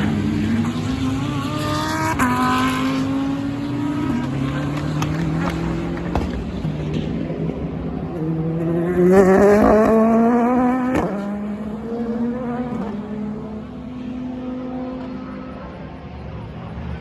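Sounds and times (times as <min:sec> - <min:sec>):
race cars accelerating: 0:00.0 - 0:17.0.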